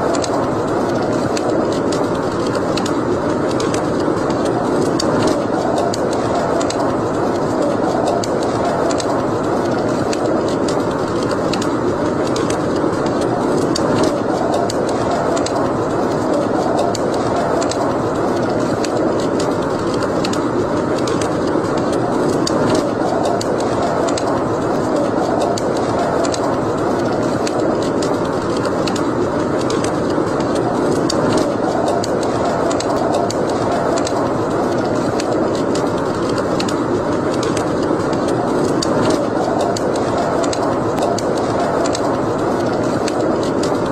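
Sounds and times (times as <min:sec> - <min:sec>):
steady rushing noise: 0:00.0 - 0:43.9
wood fire crackling and popping: 0:00.0 - 0:43.9.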